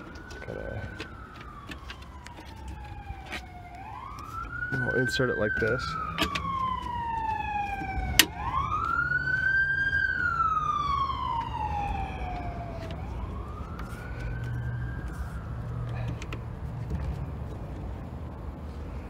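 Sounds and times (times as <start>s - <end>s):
siren wailing: 0.0s - 16.6s.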